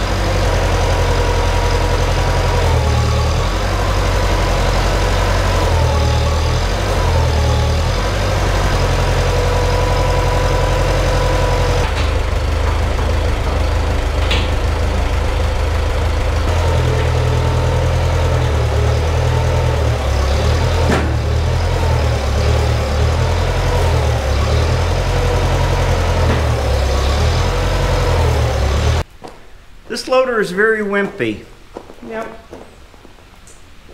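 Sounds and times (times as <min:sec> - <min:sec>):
tractor engine running: 0:00.0 - 0:29.2.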